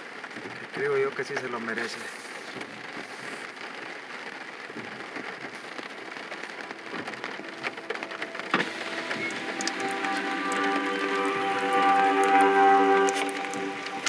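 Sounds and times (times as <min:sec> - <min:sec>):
rain on a car windshield: 0:00.0 - 0:14.0.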